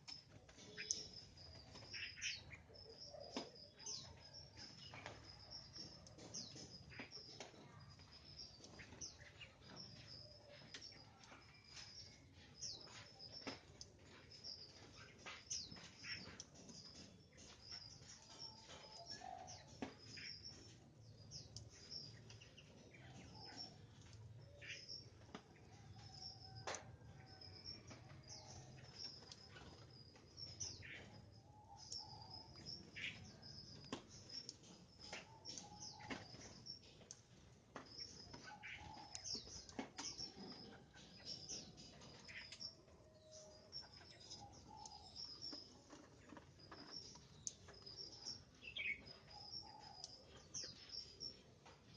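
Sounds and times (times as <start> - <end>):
caged birds chirping: 0.0 - 51.9.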